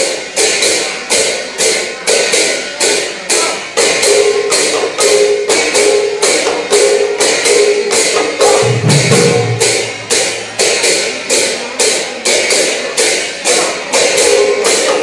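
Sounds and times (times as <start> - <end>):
hand cymbals clashing: 0.0 - 15.0
khol drums: 0.0 - 15.0.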